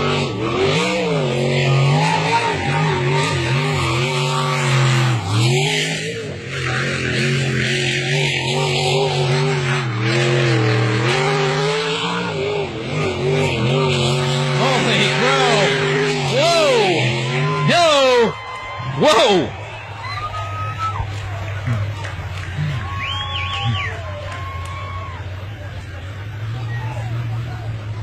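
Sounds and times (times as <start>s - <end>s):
racing boat engine: 0.0s - 28.0s.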